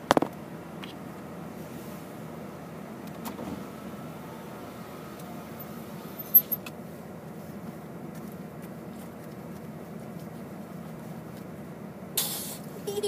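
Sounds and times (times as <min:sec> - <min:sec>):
car interior rumble while driving: 0:00.0 - 0:13.0.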